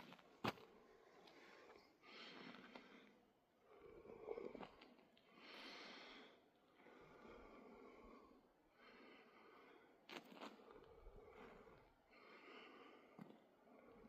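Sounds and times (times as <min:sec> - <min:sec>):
person breathing: 0:00.0 - 0:14.0.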